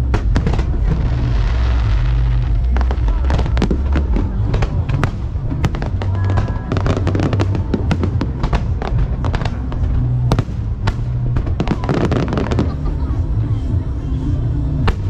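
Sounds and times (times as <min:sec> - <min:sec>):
fireworks crackling and banging: 0:00.0 - 0:15.0
low rumble of fireworks booms: 0:00.0 - 0:15.0
music playing: 0:00.0 - 0:15.0.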